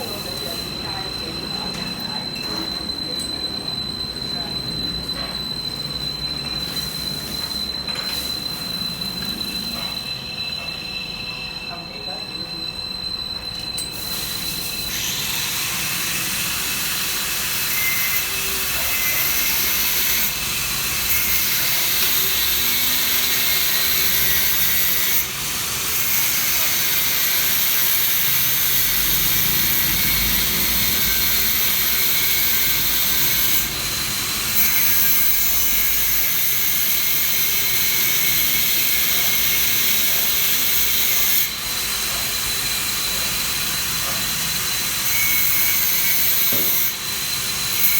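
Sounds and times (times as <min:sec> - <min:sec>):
angle grinder cutting steel: 0:00.0 - 0:05.6, 0:13.8 - 0:47.9.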